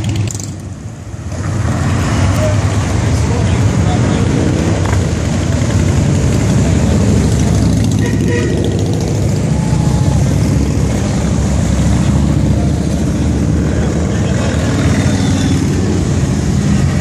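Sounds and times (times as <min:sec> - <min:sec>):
motorcycle engines droning: 0:00.0 - 0:17.0.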